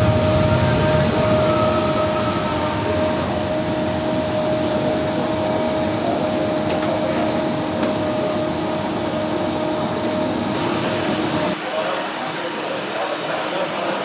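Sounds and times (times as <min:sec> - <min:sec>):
model train humming: 0:00.0 - 0:14.0.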